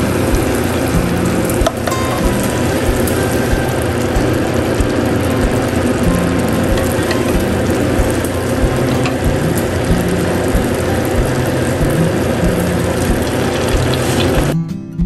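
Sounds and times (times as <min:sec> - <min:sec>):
meat sizzling in thick sauce: 0:00.0 - 0:14.6.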